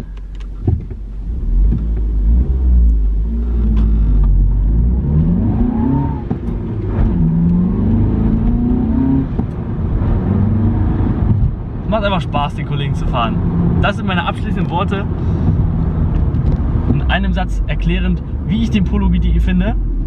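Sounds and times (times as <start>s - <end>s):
car engine accelerating: 0.0s - 20.0s
heavy low rumble: 0.0s - 20.0s.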